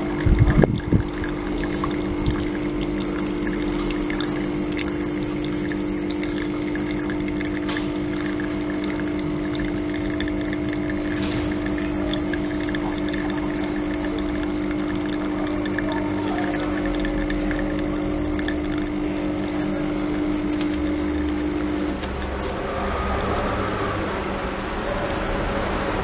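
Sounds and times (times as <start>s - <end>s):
coffee running into cup: 0.0s - 26.0s
espresso machine pump humming: 0.0s - 26.0s.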